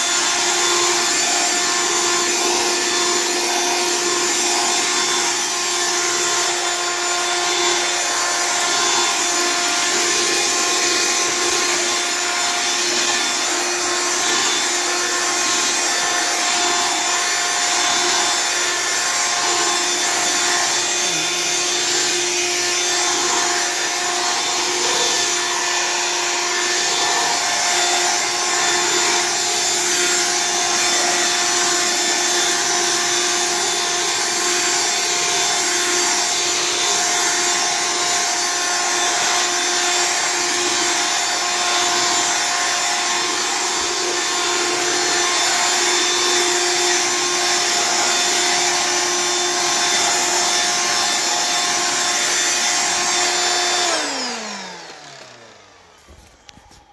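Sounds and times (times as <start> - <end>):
handheld vacuum cleaner whine: 0.0 - 56.9
vacuum motor winding down: 0.0 - 56.9.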